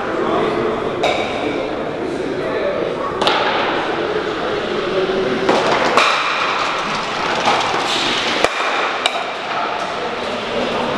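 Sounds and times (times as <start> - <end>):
hall noise: 0.0 - 10.9.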